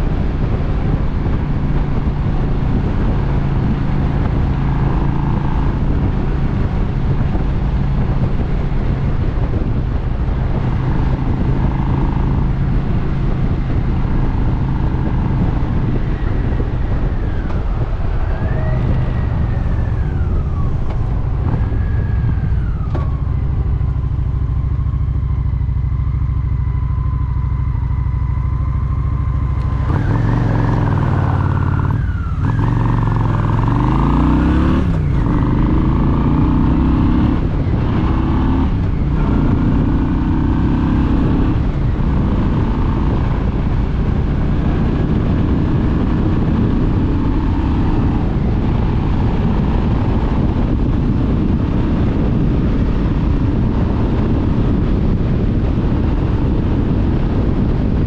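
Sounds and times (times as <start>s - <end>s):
motorcycle engine running: 0.0s - 58.0s
wind rushing: 0.0s - 58.0s.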